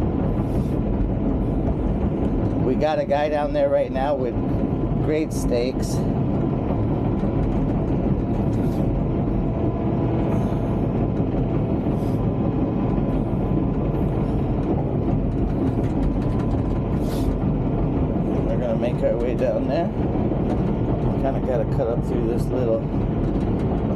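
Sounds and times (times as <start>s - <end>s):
bulldozer engine and tracks: 0.0s - 23.9s.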